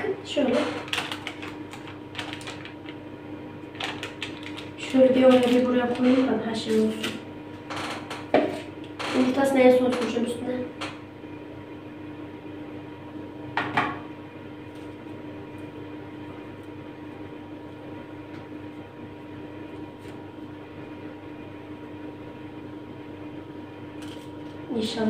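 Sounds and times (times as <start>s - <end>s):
low appliance hum: 0.0s - 25.0s.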